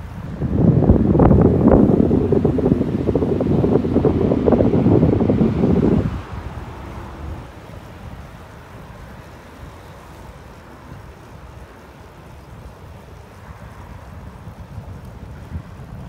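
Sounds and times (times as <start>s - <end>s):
road traffic noise: 0.0s - 16.0s
wind buffeting microphone: 0.0s - 16.0s.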